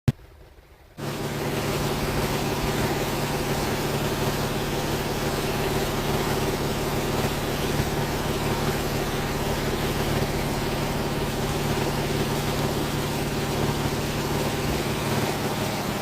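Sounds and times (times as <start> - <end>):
engine droning: 1.0 - 16.0.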